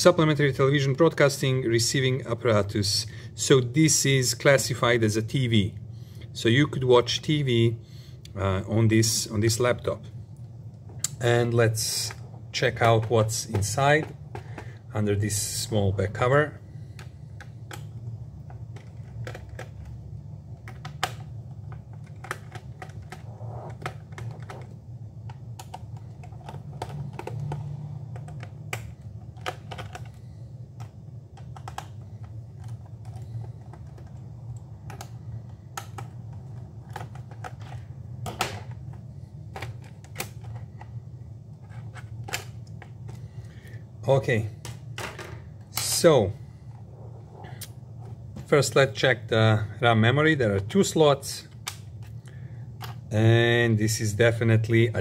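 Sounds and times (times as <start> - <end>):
low hum: 7.8 - 53.1.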